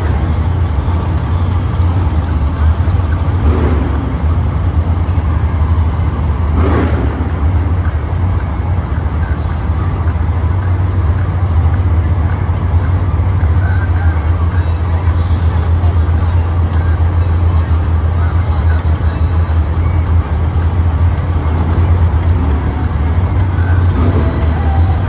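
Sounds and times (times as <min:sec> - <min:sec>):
monster truck engines rumbling: 0:00.0 - 0:25.0.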